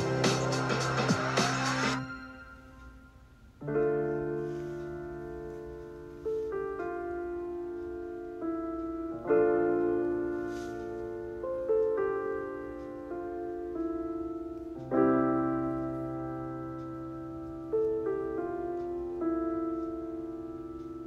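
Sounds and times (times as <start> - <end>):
gentle piano chords: 0.0 - 21.0.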